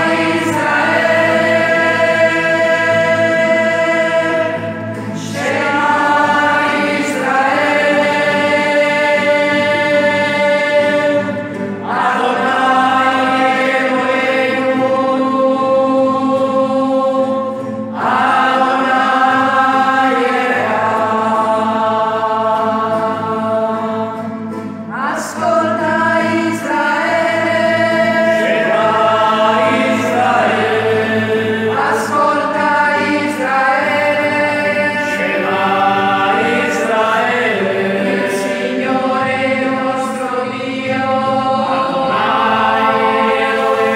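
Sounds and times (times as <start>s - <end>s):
group singing a hymn: 0.0s - 43.9s
guitar accompaniment: 0.0s - 43.9s.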